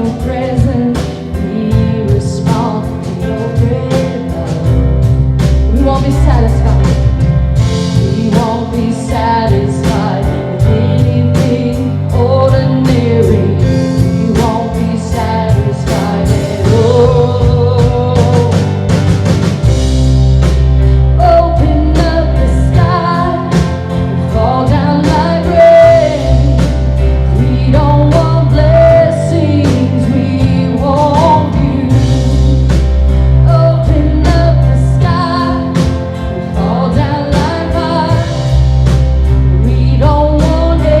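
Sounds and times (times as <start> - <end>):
lead singer singing: 0.0 - 19.2, 21.0 - 41.0
band playing worship song: 0.0 - 41.0.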